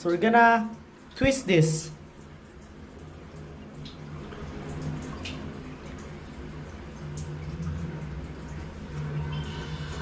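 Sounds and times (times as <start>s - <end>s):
water trickling in toilet tank: 0.0s - 10.0s.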